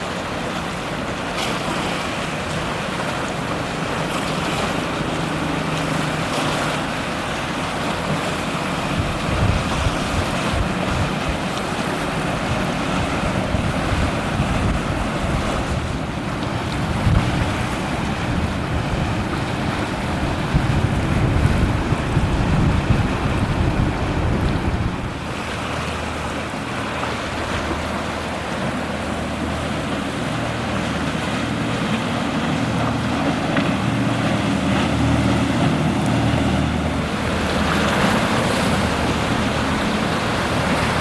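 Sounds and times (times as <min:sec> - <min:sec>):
sea water washing: 0:00.0 - 0:41.0
wind buffeting microphone: 0:02.3 - 0:41.0.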